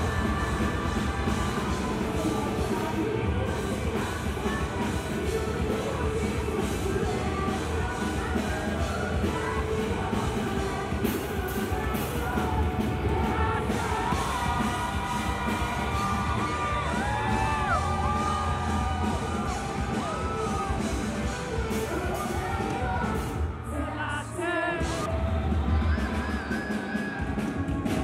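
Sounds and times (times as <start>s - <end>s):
crowd yelling: 0.0s - 6.3s, 11.7s - 28.0s
live band playing: 0.0s - 23.7s, 24.6s - 28.0s
woman singing: 0.0s - 28.0s.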